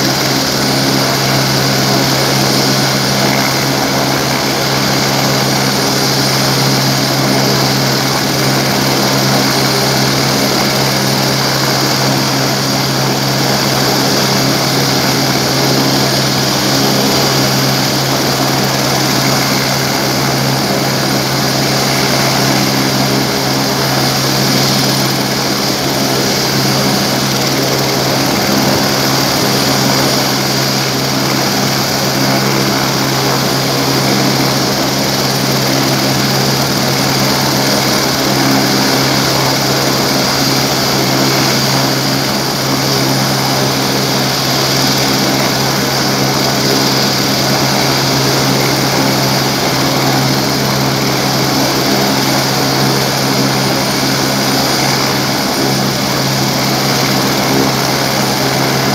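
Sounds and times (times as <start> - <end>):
helicopter turbine and rotor drone: 0.0 - 58.9.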